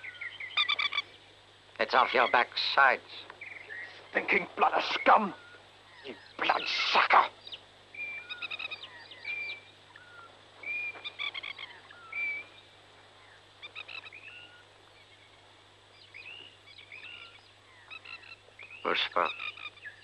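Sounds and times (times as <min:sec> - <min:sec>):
birds whistling and chirping: 0:00.0 - 0:01.2, 0:03.3 - 0:06.4, 0:07.4 - 0:15.3, 0:16.0 - 0:20.0.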